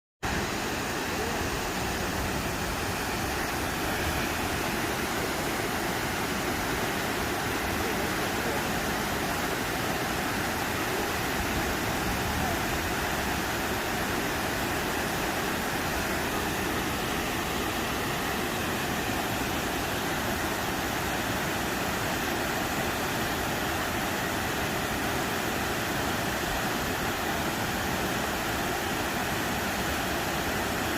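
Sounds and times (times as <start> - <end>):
river water rushing over rocks: 0.2 - 30.9.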